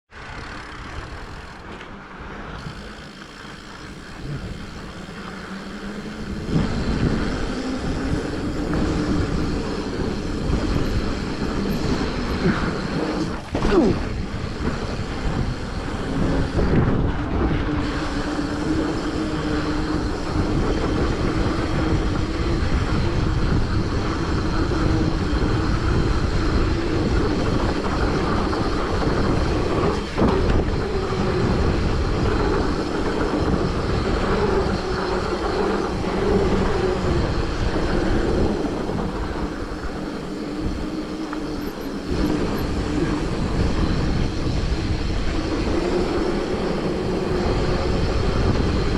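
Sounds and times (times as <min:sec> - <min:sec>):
wavering hum: 0:00.1 - 0:48.9
wind rushing over microphone: 0:00.1 - 0:48.9
bike jolts: 0:00.2 - 0:48.9.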